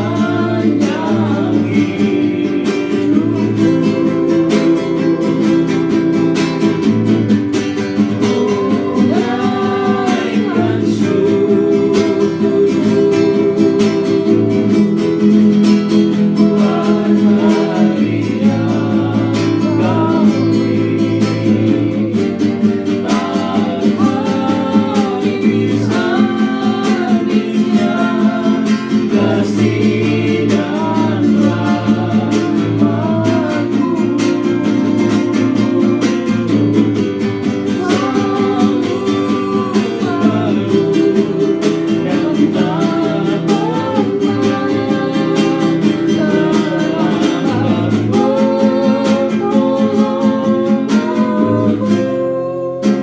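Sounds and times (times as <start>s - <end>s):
person singing: 0.0s - 53.0s
strummed acoustic guitar: 0.0s - 53.0s.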